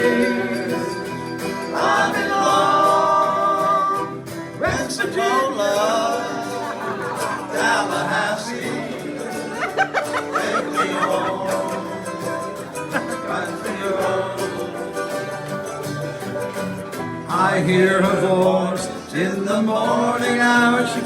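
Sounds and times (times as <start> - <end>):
live band playing country music: 0.0 - 21.0.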